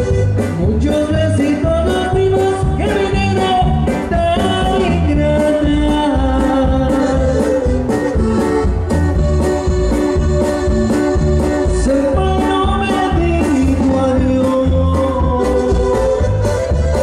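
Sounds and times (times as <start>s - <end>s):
latin dance band music: 0.0s - 17.0s.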